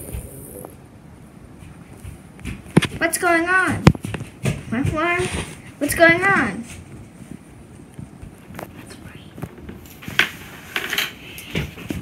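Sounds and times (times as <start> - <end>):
faint knocks and shuffling: 0.0 - 12.0.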